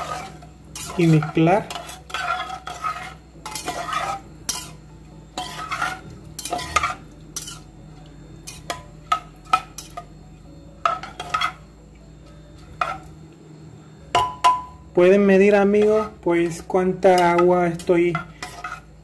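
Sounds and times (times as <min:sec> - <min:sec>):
ladle scraping metal pot: 0:00.0 - 0:07.7, 0:08.4 - 0:10.1, 0:10.8 - 0:11.7, 0:12.6 - 0:13.2, 0:14.2 - 0:19.0.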